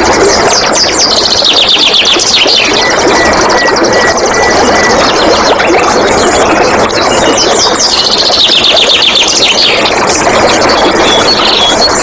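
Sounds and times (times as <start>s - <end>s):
water rushing: 0.0s - 12.0s
birds singing: 0.5s - 12.0s.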